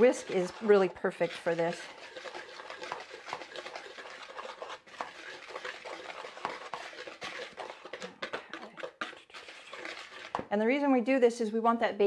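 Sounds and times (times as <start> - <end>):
whisk scraping a bowl: 0.0 - 10.5.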